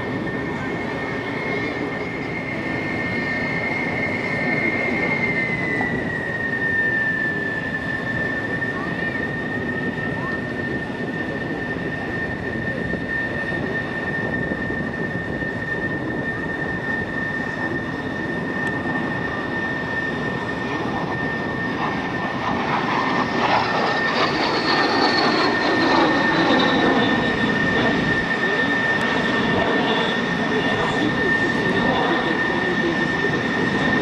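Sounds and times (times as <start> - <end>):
jet engine whine and rush: 0.0 - 34.0.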